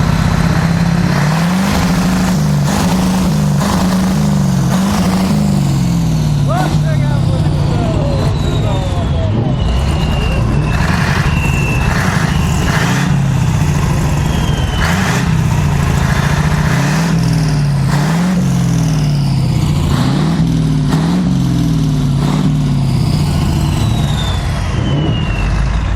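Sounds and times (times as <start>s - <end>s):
diesel truck engine revving: 0.0s - 25.9s.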